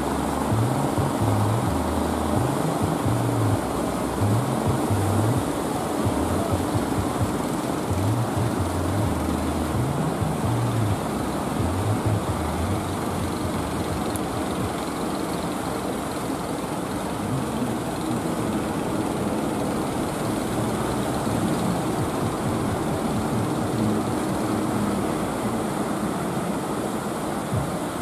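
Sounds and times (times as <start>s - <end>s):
boat engines droning: 0.0s - 28.0s.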